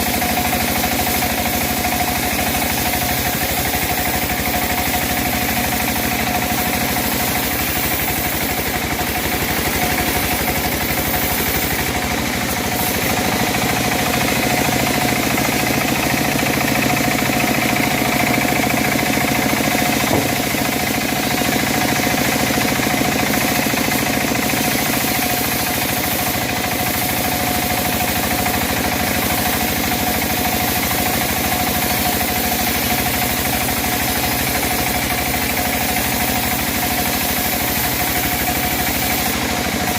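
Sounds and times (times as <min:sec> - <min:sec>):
bandsaw mill engine running: 0:00.0 - 0:39.9.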